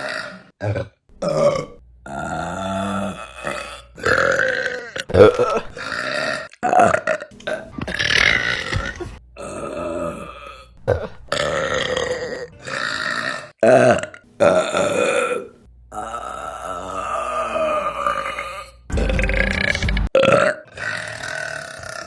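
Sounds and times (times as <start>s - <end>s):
women burping: 0.0s - 22.0s.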